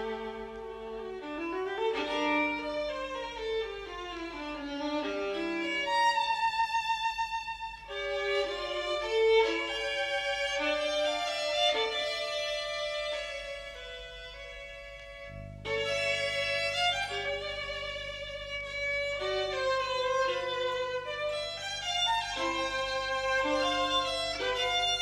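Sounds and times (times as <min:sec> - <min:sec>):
violin melody: 0:00.0 - 0:25.0.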